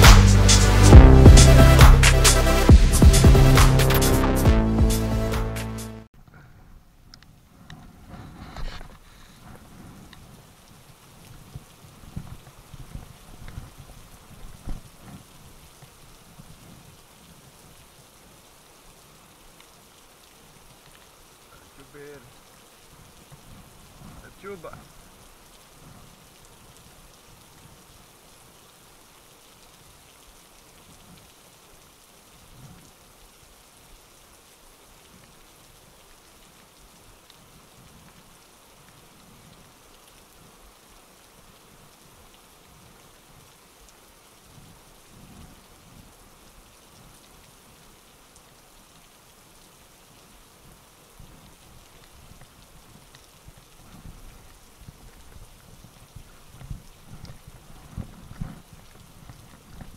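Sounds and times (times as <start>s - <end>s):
faint steady rain: 0.0s - 59.9s.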